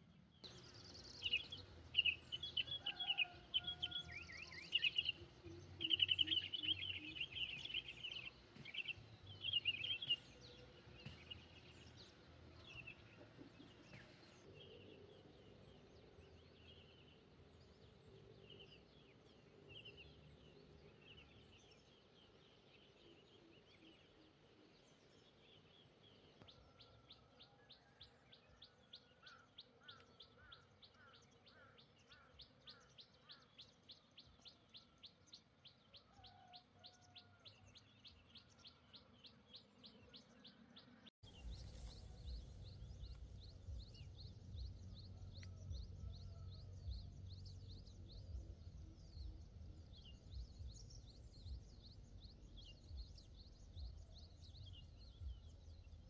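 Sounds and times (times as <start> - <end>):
small birds chirping: 0.0 - 28.0, 37.3 - 56.0.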